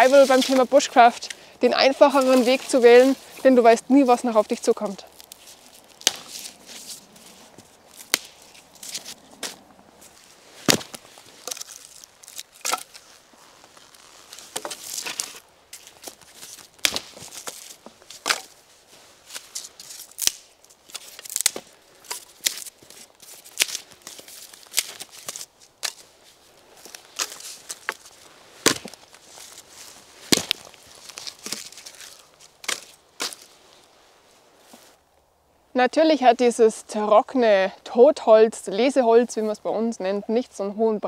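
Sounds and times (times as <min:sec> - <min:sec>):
dry branches cracking: 0:00.0 - 0:34.0
twigs rustling and crunching: 0:00.0 - 0:37.4.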